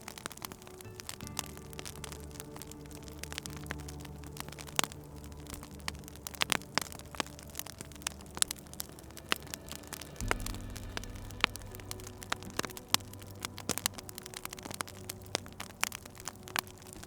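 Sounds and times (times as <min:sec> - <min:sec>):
low hum: 0:00.0 - 0:17.0
wood fire crackling: 0:00.0 - 0:17.0.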